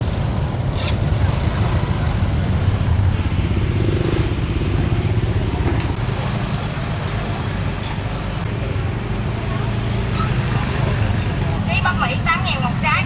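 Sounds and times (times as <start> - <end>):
low rumble of street traffic: 0.0 - 13.0
motorbike engines running: 0.0 - 13.0.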